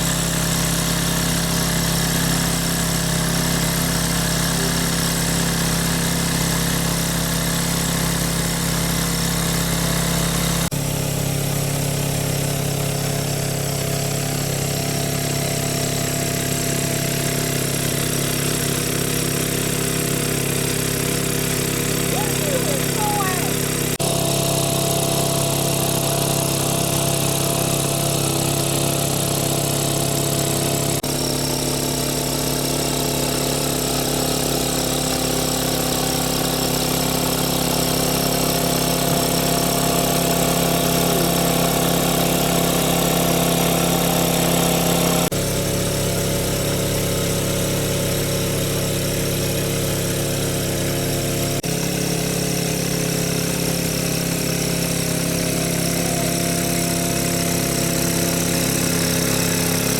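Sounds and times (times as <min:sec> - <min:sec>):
engine-driven water pump running: 0:00.0 - 0:59.9.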